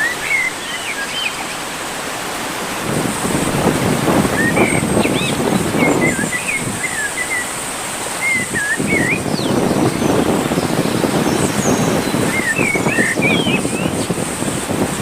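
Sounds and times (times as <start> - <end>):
birds chirping: 0.0 - 1.9, 3.5 - 14.5
rushing river water: 0.0 - 15.0.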